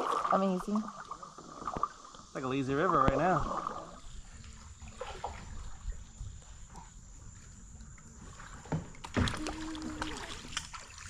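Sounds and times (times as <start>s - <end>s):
light water sounds: 0.0s - 11.0s.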